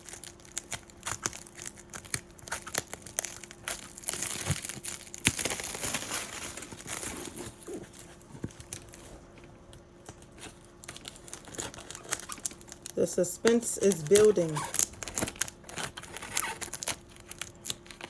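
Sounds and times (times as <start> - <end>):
packing tape ripping off cardboard: 0.0 - 9.0, 10.1 - 18.0
crinkling handling noise: 0.0 - 18.0.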